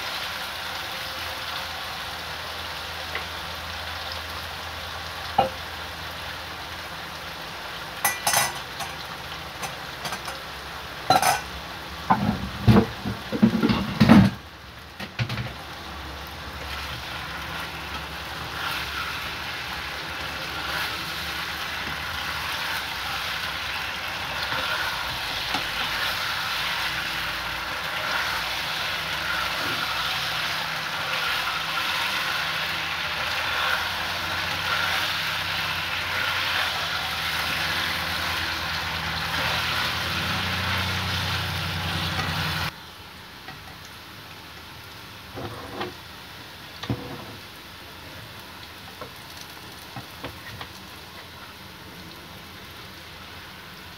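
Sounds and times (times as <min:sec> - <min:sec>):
potato sticks sizzling in oil: 0:00.0 - 0:53.9.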